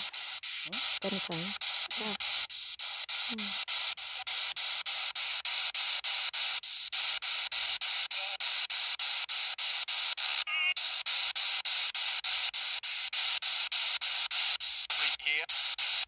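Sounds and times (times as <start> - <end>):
radio static chopped into bursts: 0.0 - 16.0.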